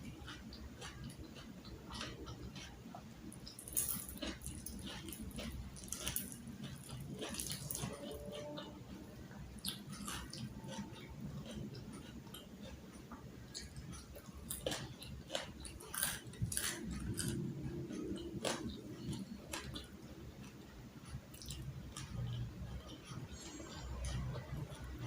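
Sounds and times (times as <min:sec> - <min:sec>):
person chewing food: 0:00.0 - 0:25.0.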